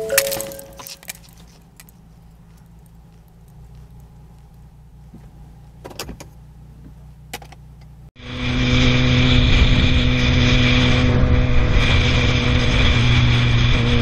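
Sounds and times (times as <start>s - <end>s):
in-car rumble: 0.0s - 14.0s
motorcycle engine drone: 0.0s - 14.0s.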